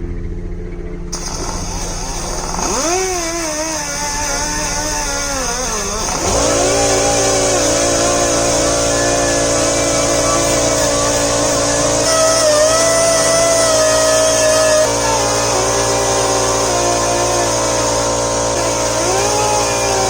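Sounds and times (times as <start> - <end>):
steady low hum: 0.0 - 20.0
die grinder wire brush on steel: 1.2 - 20.0.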